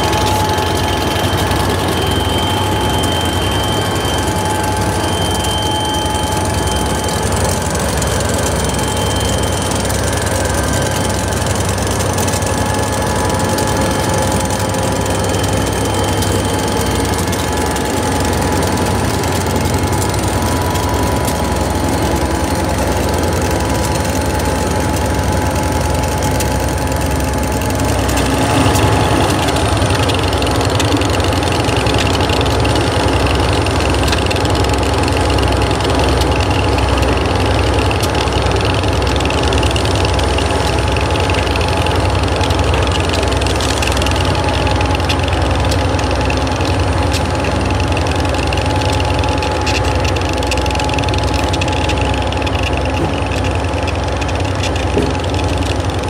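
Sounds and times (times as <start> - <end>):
diesel locomotive engines running: 0.0 - 56.0.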